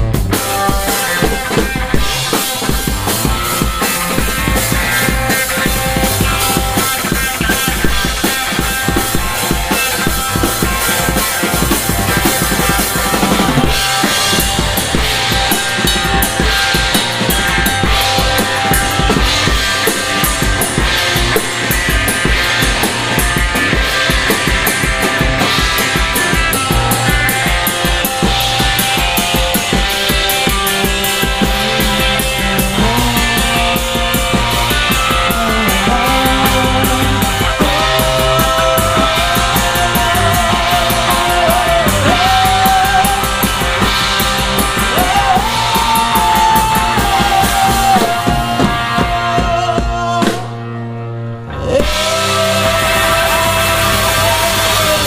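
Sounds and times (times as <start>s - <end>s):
drum kit beat: 0.0s - 50.7s, 51.8s - 55.0s
electric guitar: 0.0s - 55.0s
rock band playing: 0.0s - 55.0s
sustained guitar lead line: 0.0s - 55.0s.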